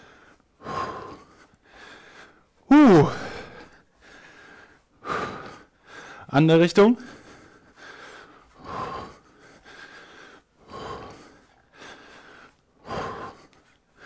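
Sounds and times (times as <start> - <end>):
man breathing hard: 0.0 - 6.3, 7.0 - 14.0.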